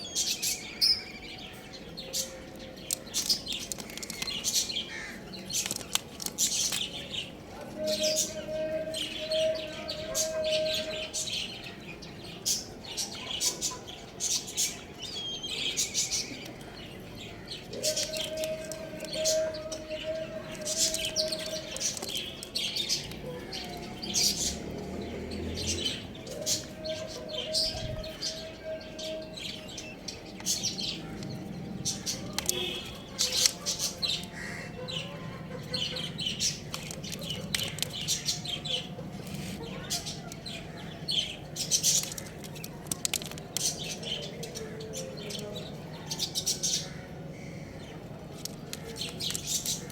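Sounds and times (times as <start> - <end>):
young chickens chirping: 0.0 - 49.9.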